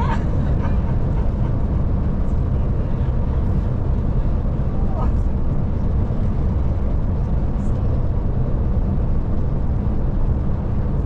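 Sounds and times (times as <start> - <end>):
coach engine and road noise: 0.0 - 11.0.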